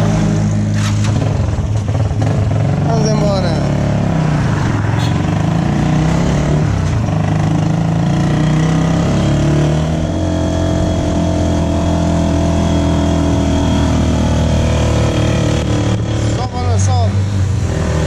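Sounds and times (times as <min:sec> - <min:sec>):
motorcycle engine running: 0:00.0 - 0:04.4, 0:05.0 - 0:18.0.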